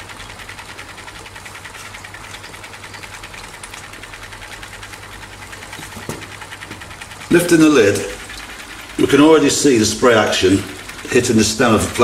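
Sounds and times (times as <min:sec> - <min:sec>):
pump humming with fast pulsing: 0:00.0 - 0:12.0.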